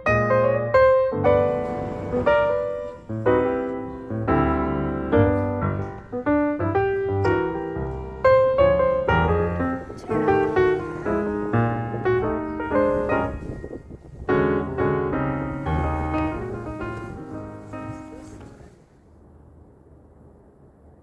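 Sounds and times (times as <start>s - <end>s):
piano background music: 0.0s - 18.8s.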